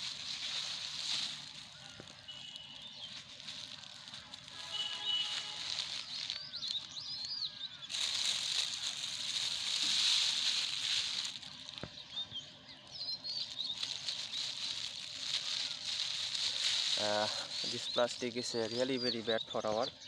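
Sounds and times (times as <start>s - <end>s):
rustling hiss: 0.0s - 12.2s, 13.2s - 18.9s
small birds chirping: 0.0s - 20.0s.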